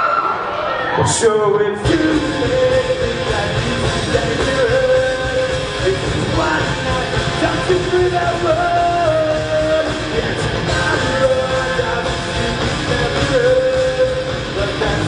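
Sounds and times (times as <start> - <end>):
bass and drums: 1.2 - 15.0
electric guitars sliding notes: 1.8 - 15.0.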